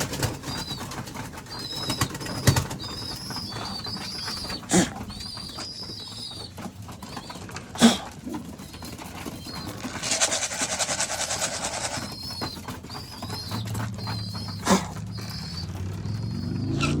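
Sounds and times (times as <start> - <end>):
wings fluttering: 0.0 - 16.6
pigeons cooing: 0.0 - 17.0.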